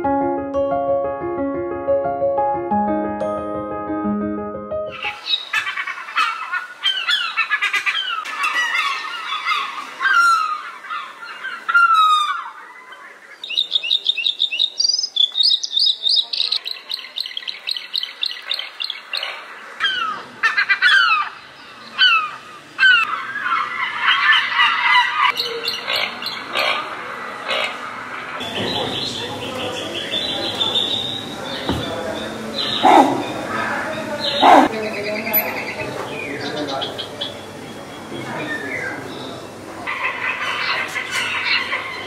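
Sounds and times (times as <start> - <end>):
birds chirping and trilling: 4.9 - 42.0.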